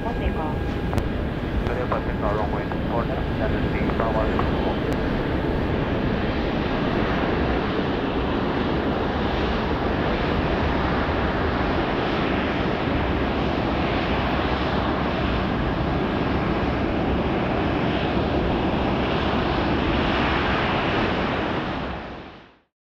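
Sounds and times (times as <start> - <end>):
jet engines roaring: 0.0 - 22.3.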